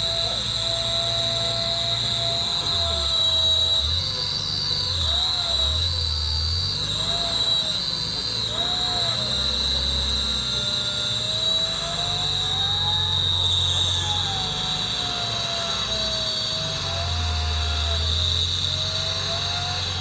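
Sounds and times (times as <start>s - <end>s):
steady high-pitched whine: 0.0s - 20.0s.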